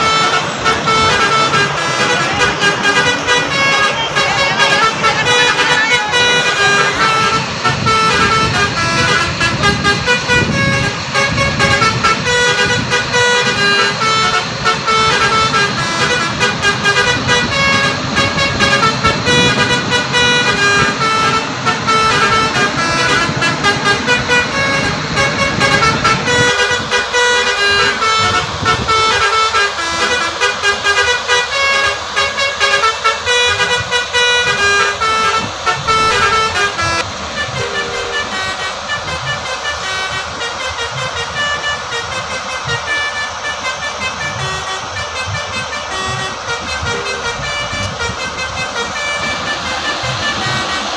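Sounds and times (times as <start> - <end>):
bus multi-tone horn toots: 0.0 - 50.9
low vehicle rumble: 0.0 - 50.9.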